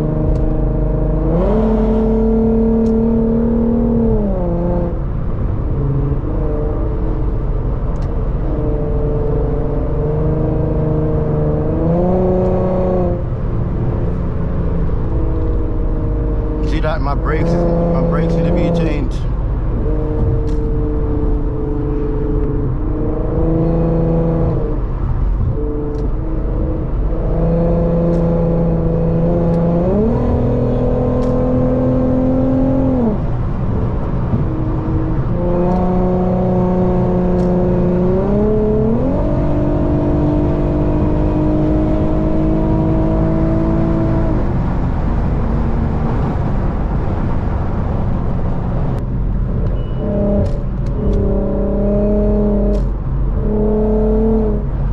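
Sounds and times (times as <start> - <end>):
car engine on highway: 0.0 - 54.9.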